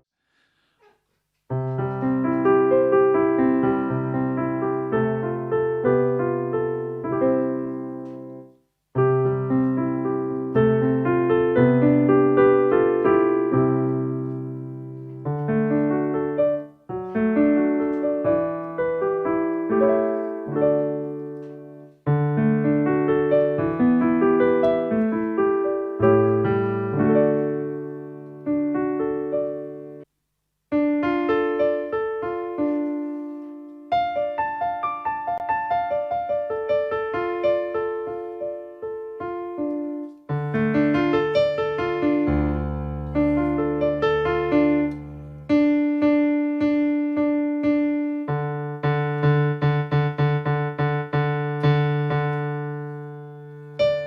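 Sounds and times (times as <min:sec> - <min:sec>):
digital piano chords: 0:01.5 - 0:30.1, 0:30.7 - 0:54.0.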